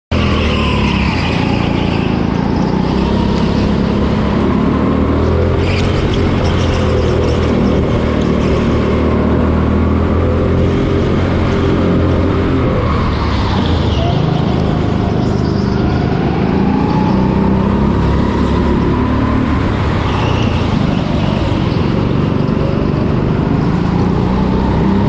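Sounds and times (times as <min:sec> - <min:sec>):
go-kart engine running: 0:00.2 - 0:25.0.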